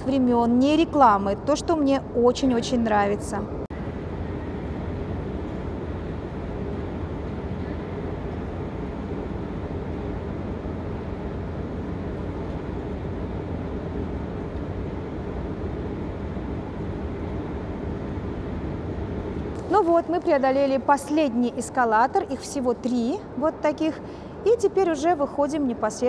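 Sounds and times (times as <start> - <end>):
escalator hum and rumble: 0.0 - 26.0.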